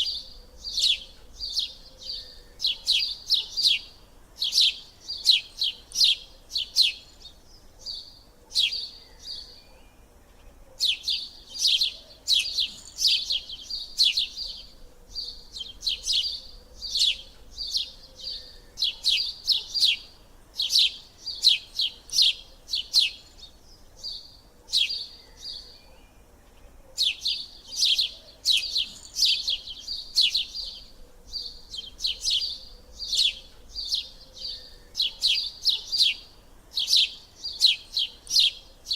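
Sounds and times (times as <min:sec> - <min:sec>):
small bird chirping rapidly: 0:00.0 - 0:09.6, 0:10.8 - 0:25.7, 0:27.0 - 0:38.9.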